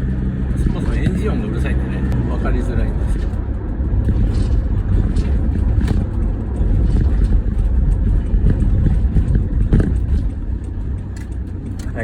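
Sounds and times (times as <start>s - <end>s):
road and engine rumble in van: 0.0s - 12.0s.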